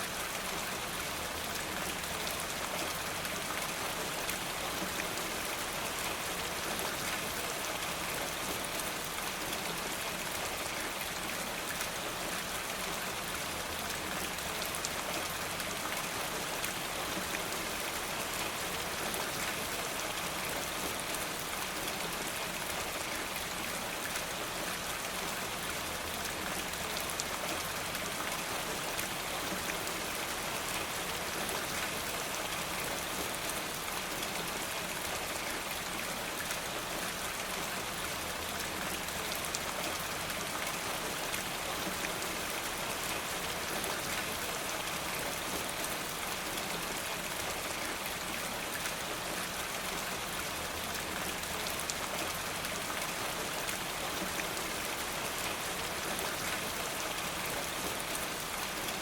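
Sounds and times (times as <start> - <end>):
rain falling through trees: 0.0 - 59.0.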